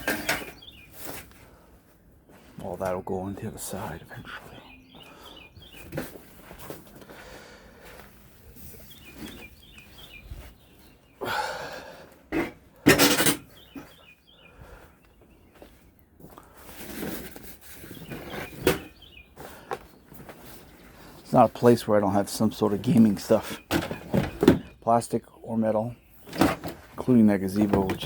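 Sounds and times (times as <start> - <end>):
birds chirping: 0.0 - 16.7, 17.6 - 28.0.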